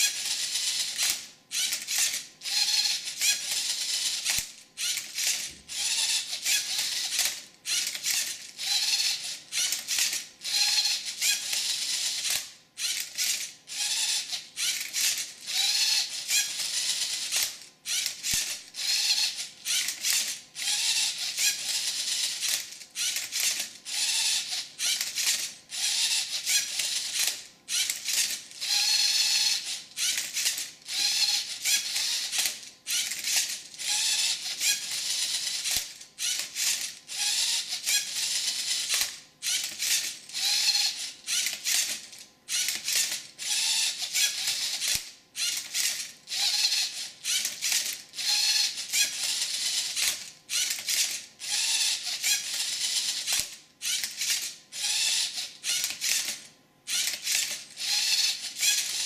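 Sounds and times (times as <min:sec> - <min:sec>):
robot motors and gears whirring: 0:00.0 - 0:59.0.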